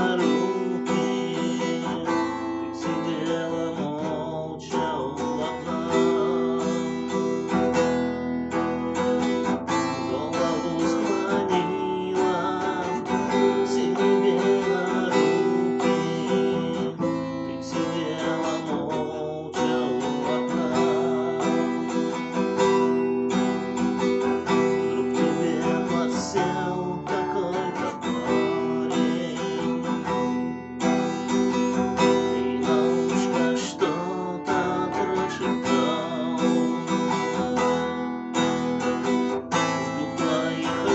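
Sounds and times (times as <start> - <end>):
acoustic guitar chords strummed: 0.0 - 40.9.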